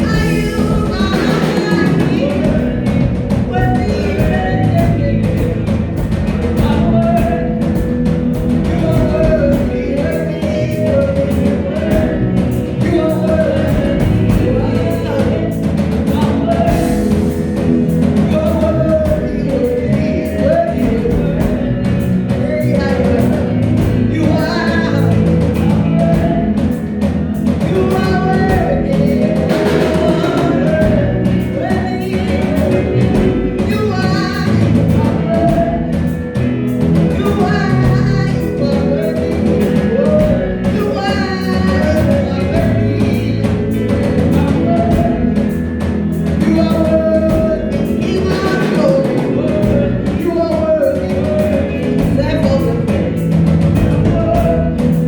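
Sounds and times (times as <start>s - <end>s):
live gospel band playing: 0.0s - 55.0s.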